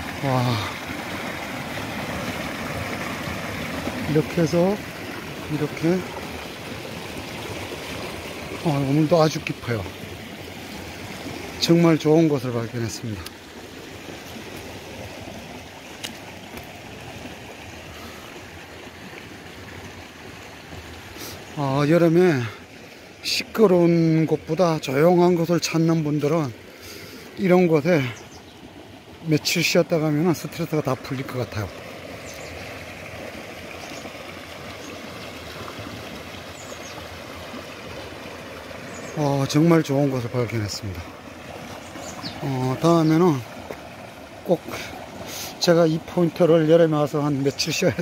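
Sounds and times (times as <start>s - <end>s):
stream flowing over rocks: 0.0s - 48.0s.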